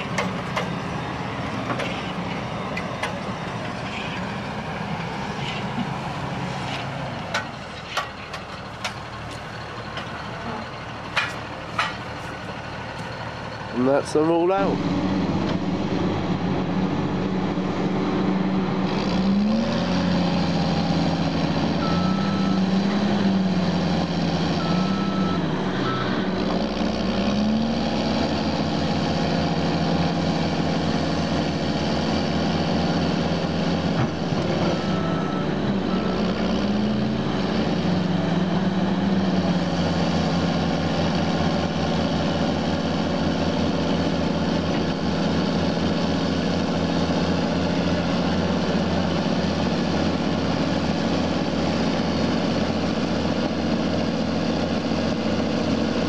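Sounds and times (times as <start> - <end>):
heavy diesel engines revving: 0.0 - 56.0.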